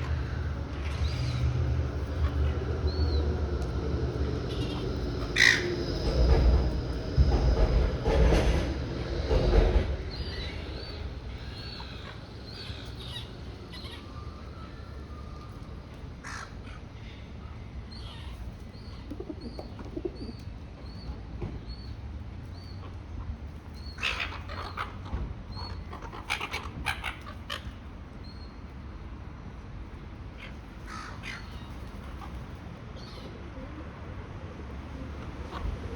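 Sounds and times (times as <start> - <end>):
low rumble of wind: 0.0 - 35.9.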